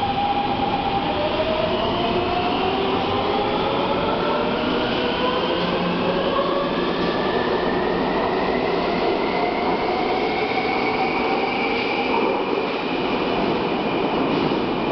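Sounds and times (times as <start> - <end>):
subway train motors whining: 0.0 - 14.9.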